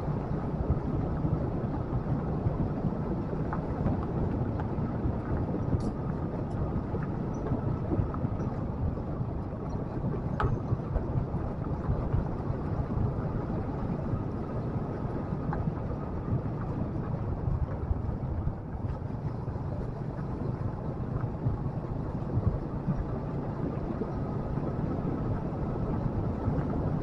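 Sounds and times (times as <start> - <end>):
motorcycle engine rumble: 0.0 - 27.0
wind noise on microphone: 0.0 - 27.0.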